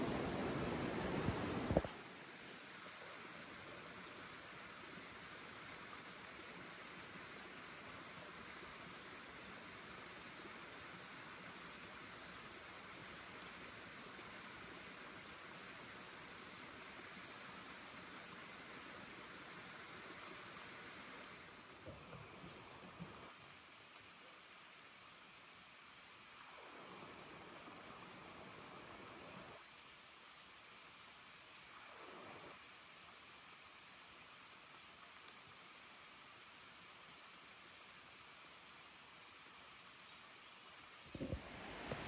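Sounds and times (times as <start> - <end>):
faint hiss: 0.0 - 42.0
insects droning: 0.0 - 42.0.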